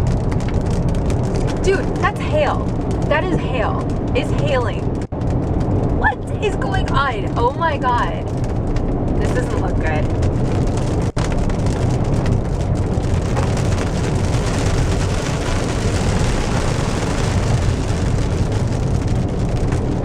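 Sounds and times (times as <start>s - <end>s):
car driving rumble: 0.0s - 20.0s
rain and hail on car roof: 0.0s - 20.0s.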